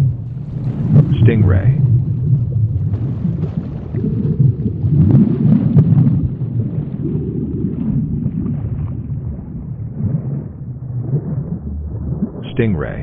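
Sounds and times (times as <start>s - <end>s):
crackling bubbles: 0.0s - 13.0s
underwater rush of water: 0.0s - 13.0s.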